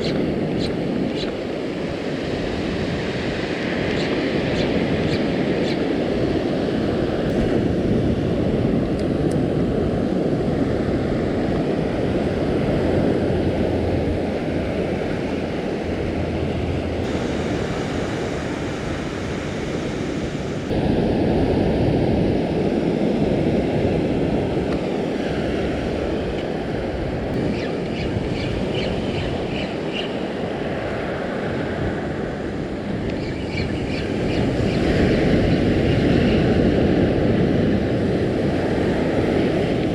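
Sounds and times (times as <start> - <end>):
surf washing onto beach: 0.0 - 27.9, 34.5 - 39.9
wind rumble on microphone: 0.0 - 39.9.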